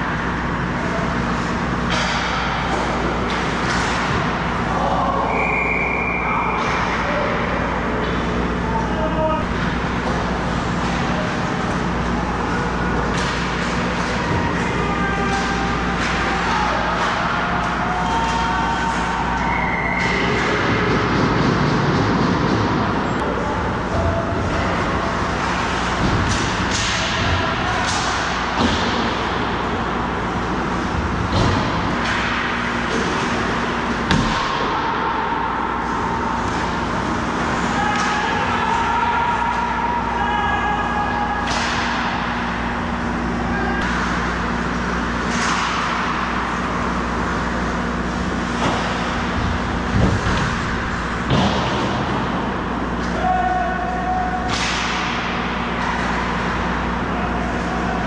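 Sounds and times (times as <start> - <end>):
hockey sticks and puck clacking: 0.0 - 5.5, 9.4 - 58.0.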